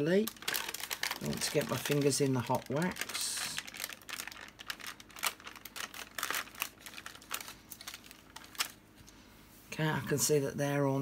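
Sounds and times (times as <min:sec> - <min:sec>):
paper crinkling and crackling: 0:00.0 - 0:09.0.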